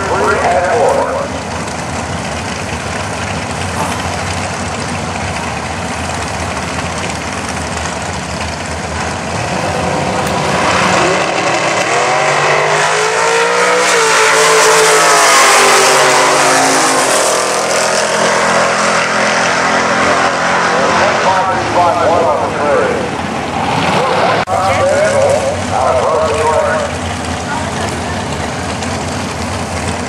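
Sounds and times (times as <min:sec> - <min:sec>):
race car engines accelerating: 0:00.0 - 0:30.0.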